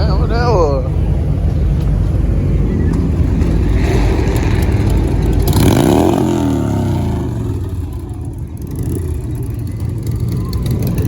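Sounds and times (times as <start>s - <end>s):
car engine revving: 0.0s - 11.0s
low rumble of other engines: 0.0s - 11.0s.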